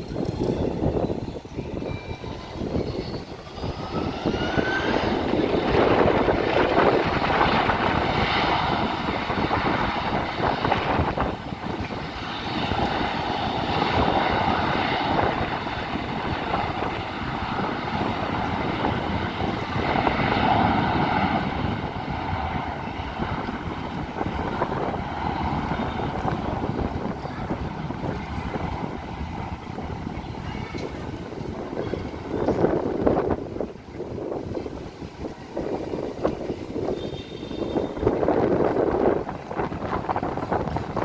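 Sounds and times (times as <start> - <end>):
airliner engines roaring: 0.0 - 41.0.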